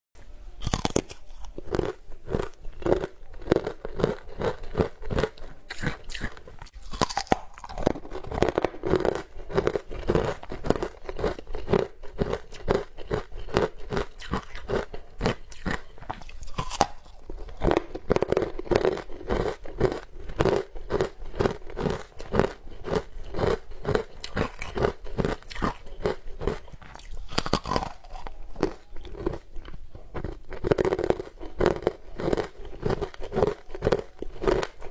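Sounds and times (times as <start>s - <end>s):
person crunching ice: 0.6s - 34.9s.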